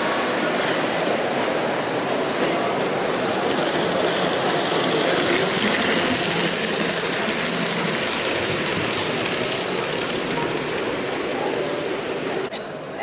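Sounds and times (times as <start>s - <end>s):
model train running on track: 0.0s - 12.5s.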